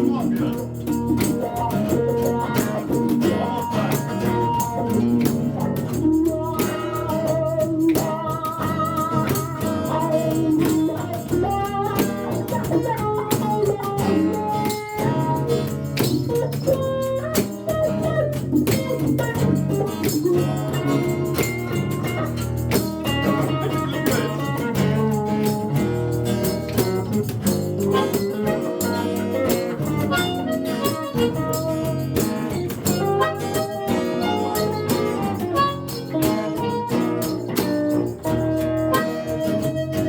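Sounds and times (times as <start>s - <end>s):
blues harmonica melody: 0.0s - 40.0s
strummed acoustic guitar: 0.0s - 40.0s.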